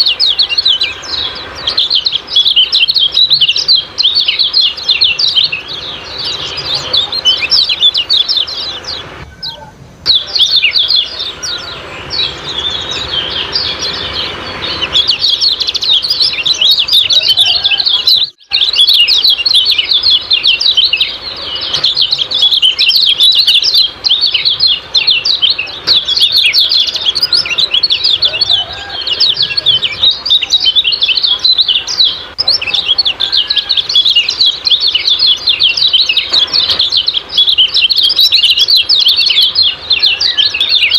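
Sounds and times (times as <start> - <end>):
birds chattering calls: 0.0 - 40.9.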